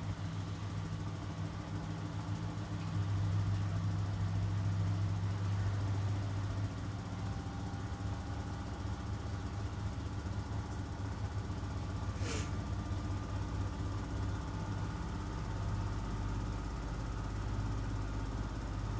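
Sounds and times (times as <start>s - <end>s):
washing machine running: 0.0s - 18.9s.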